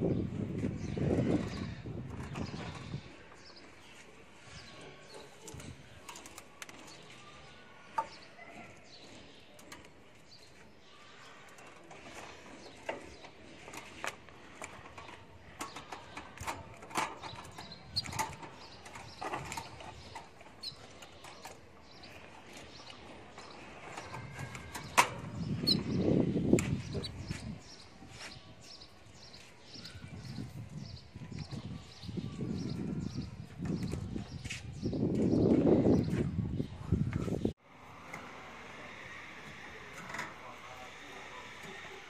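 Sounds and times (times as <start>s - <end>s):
cage birds chirping: 0.0s - 42.0s.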